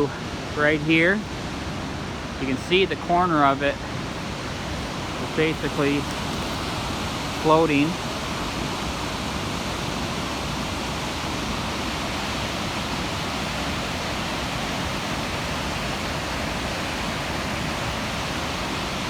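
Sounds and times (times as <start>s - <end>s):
fast river rushing: 0.0s - 19.0s.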